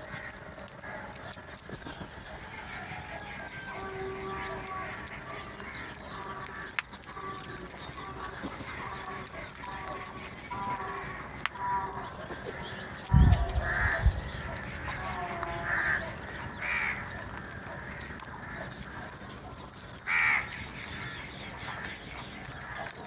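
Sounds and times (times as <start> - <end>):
crows cawing: 0.0 - 19.4, 20.0 - 23.0.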